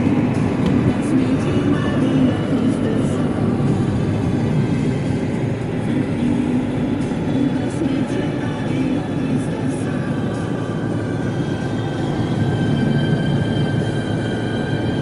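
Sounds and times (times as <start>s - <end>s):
car tyres and engine rumbling: 0.0s - 15.0s.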